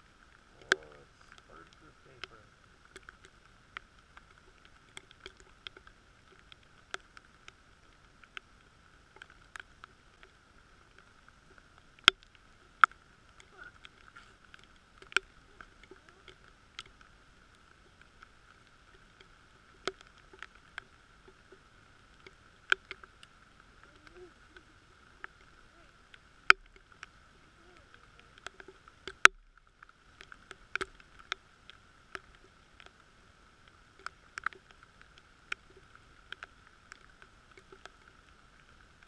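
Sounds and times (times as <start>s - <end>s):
faint steady hiss: 0.0s - 39.0s
raindrops ticking on housing: 0.0s - 39.0s.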